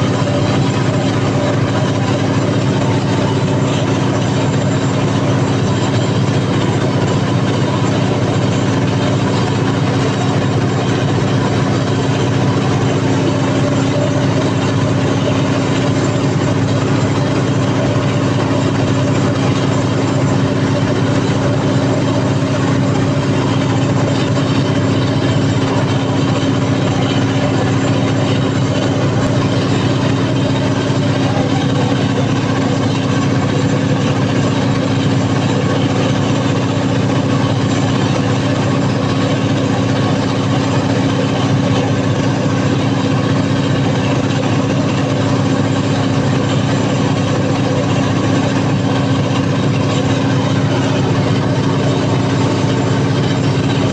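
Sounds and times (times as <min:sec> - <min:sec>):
loud diesel generator running: 0:00.0 - 0:53.9.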